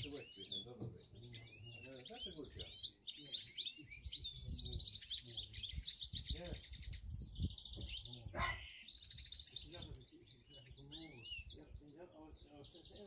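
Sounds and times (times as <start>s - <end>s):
caged birds trilling and chirping: 0.0s - 13.0s.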